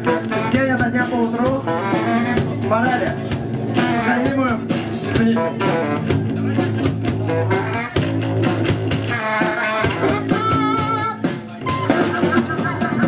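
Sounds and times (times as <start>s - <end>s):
drum kit steady beat: 0.0s - 13.0s
electric guitar: 0.0s - 13.0s.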